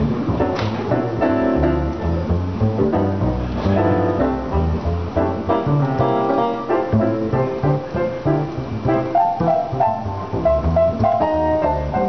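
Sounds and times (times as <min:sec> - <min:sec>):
digital piano chords and melody: 0:00.0 - 0:12.0
upright bass plucked: 0:00.0 - 0:12.0.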